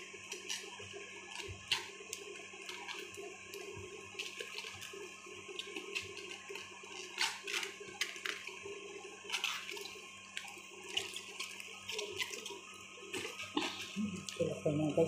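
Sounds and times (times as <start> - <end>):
faint steady hum: 0.0 - 15.0
cabbage leaves tearing and snapping: 0.3 - 8.6, 9.2 - 14.5.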